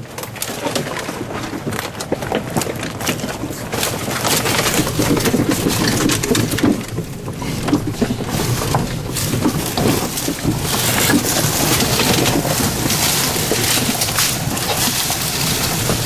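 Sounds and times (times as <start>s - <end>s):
tyres crunching over stones: 0.0s - 16.0s
vehicle knocks and rattles: 0.0s - 16.0s.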